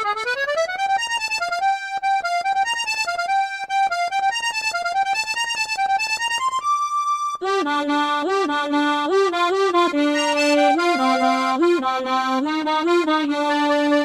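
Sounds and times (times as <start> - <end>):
accordion melody: 0.0 - 14.0.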